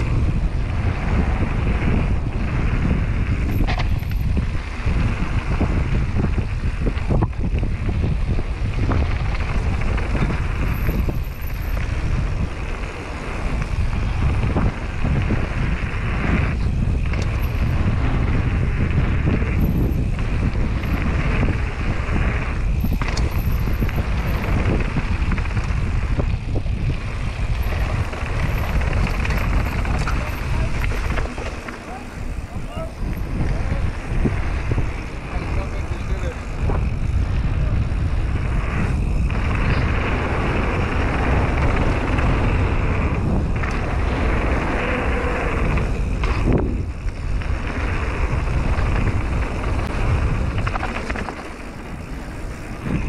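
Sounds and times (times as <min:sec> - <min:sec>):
bike tyres rolling on gravel: 0:00.0 - 0:53.0
wind on microphone: 0:00.0 - 0:53.0.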